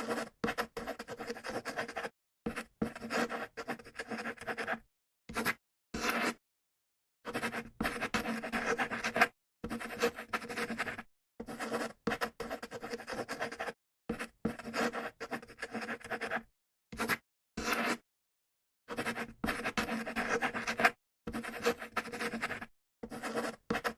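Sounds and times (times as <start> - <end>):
pen scratching on paper: 0.0 - 6.4, 7.3 - 18.0, 18.9 - 23.9.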